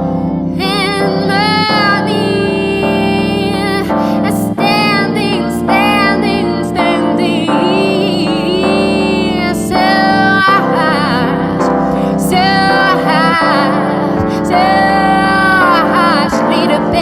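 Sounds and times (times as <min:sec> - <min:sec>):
looped vocal layers: 0:00.0 - 0:17.0
piano chords: 0:00.0 - 0:17.0
woman singing with vibrato: 0:00.5 - 0:17.0.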